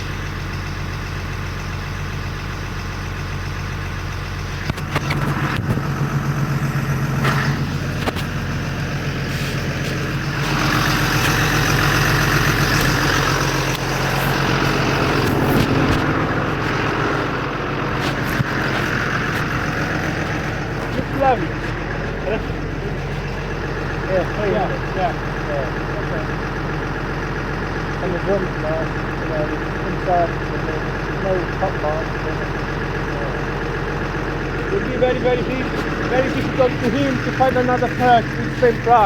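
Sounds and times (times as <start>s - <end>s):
diesel truck engine humming: 0.0s - 39.0s.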